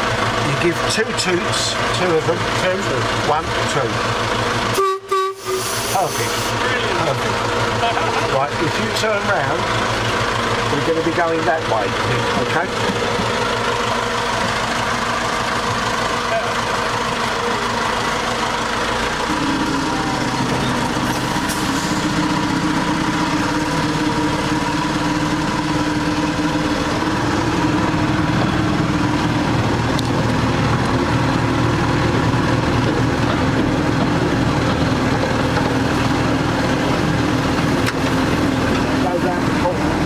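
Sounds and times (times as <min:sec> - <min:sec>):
diesel locomotive engine running: 0:00.0 - 0:40.0.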